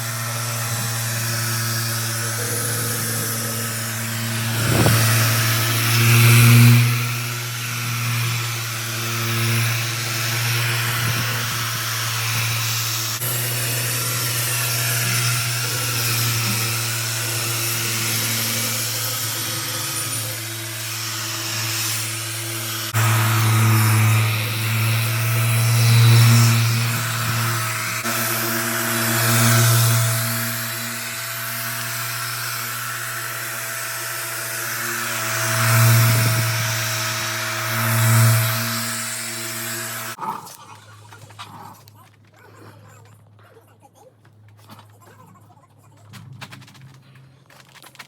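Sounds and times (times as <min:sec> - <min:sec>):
power tool humming and hissing: 0:00.0 - 0:40.2.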